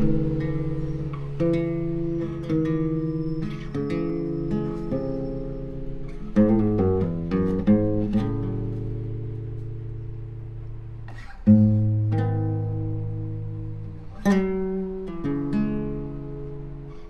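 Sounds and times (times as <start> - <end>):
fingerstyle acoustic guitar: 0.0 - 17.0.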